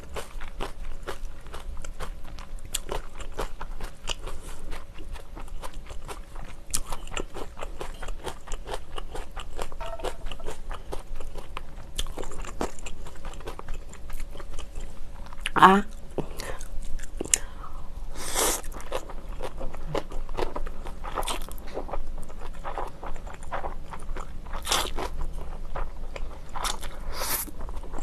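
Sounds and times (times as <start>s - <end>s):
person chewing and crunching food: 0.0s - 17.6s, 18.2s - 28.0s.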